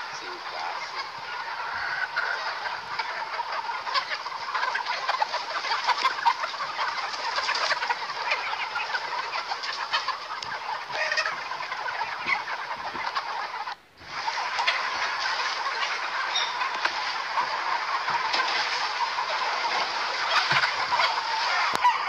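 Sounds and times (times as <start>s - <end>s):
flock of chickens clucking: 0.0s - 22.0s.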